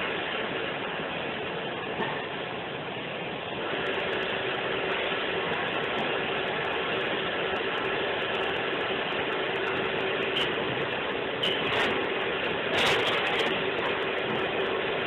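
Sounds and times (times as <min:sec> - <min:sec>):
conveyor belt rattling: 0:00.0 - 0:15.0.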